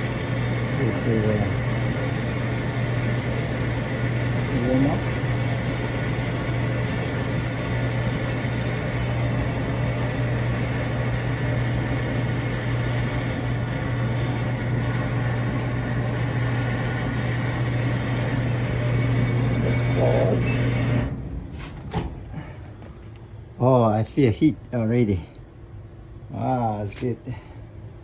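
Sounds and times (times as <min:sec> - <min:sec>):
clothes dryer humming: 0:00.0 - 0:24.9.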